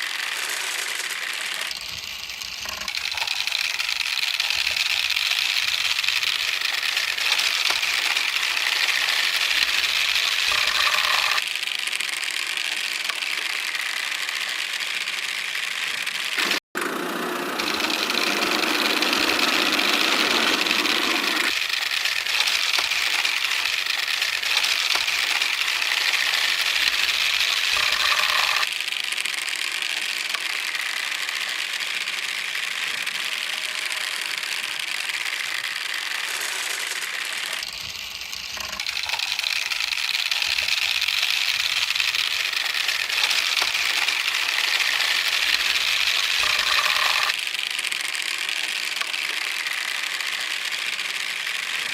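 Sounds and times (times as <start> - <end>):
marbles rolling and rattling on tracks: 0.0 - 16.6, 17.3 - 51.9.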